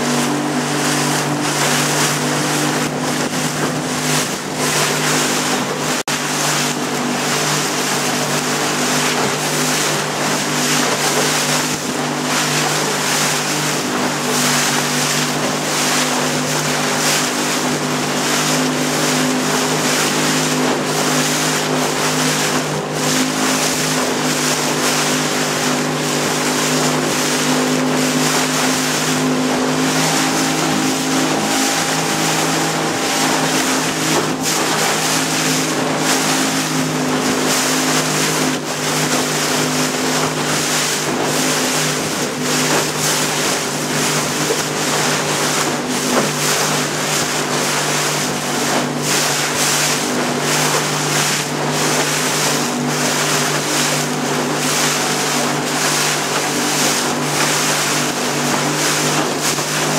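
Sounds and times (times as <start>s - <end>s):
motorboat engine running: 0.0s - 59.9s
water and wind rushing: 0.0s - 59.9s.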